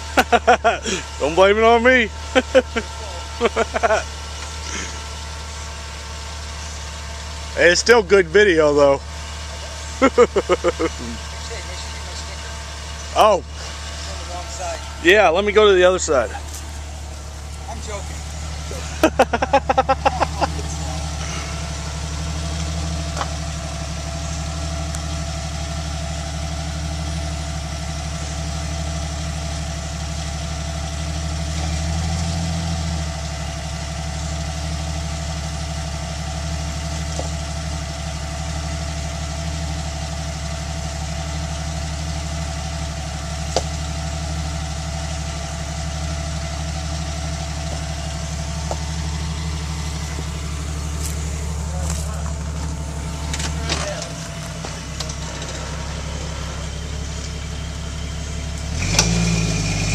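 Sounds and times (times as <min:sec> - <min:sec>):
engine running at low revs: 0:00.0 - 0:59.9.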